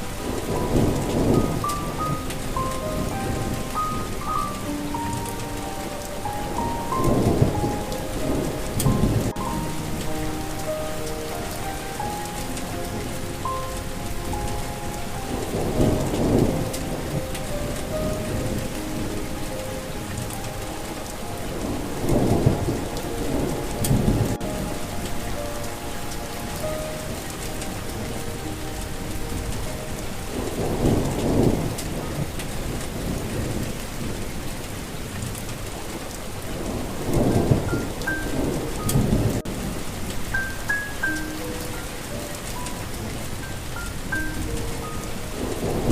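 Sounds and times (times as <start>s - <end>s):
soft melody of held notes: 0.0s - 45.9s
steady rain: 0.0s - 45.9s
thunder rumbling: 0.0s - 45.9s.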